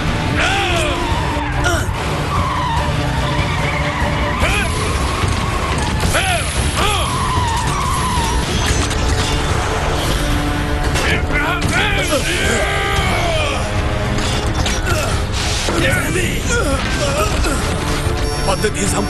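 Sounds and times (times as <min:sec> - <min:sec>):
cartoon vehicle engine: 0:00.0 - 0:19.0
dramatic background music: 0:00.0 - 0:19.0
tyres skidding: 0:00.0 - 0:19.0.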